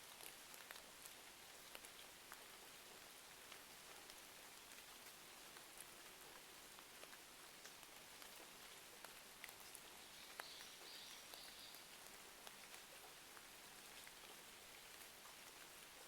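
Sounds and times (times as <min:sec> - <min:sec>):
rain hiss: 0:00.0 - 0:16.0
small fire crackles: 0:00.0 - 0:16.0.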